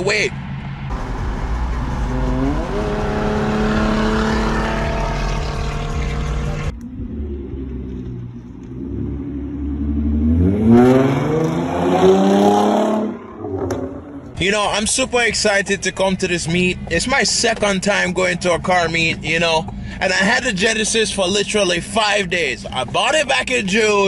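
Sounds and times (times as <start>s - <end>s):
car engine revving: 0.3s - 19.8s.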